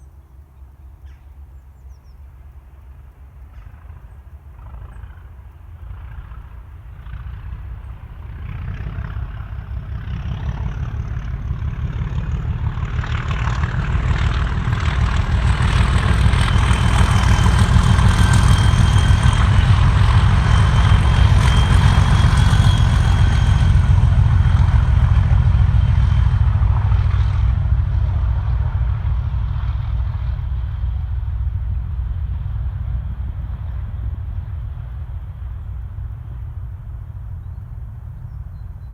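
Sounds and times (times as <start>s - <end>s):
diesel locomotive engine throb: 2.7s - 38.9s.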